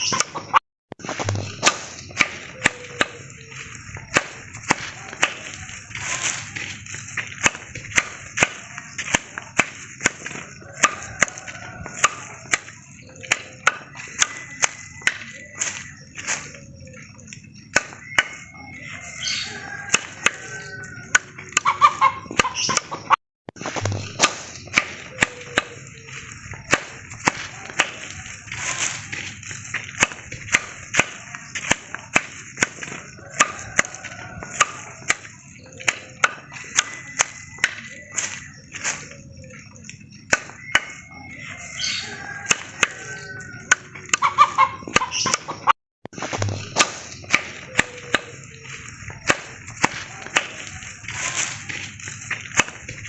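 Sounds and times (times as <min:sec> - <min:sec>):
axe chopping wood: 0:00.0 - 0:16.6, 0:17.7 - 0:18.5, 0:19.9 - 0:39.1, 0:40.3 - 0:41.0, 0:46.1 - 0:53.0
birds calling: 0:00.0 - 0:53.0.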